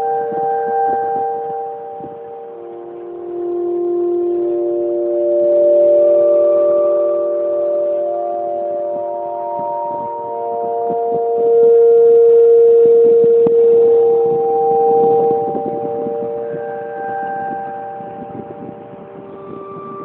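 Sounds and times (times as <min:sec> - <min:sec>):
electronic drone tones: 0:00.0 - 0:20.0.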